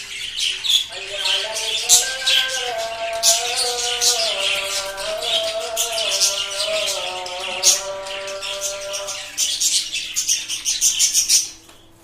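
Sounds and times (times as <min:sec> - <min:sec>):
budgerigars chirping: 0:00.0 - 0:11.7.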